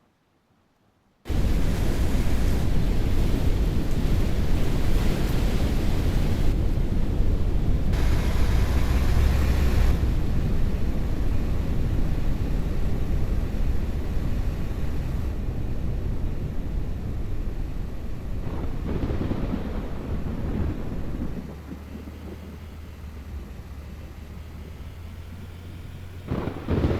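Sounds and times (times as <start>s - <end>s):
loud rushing noise with rumble: 1.3s - 22.4s, 26.3s - 26.9s.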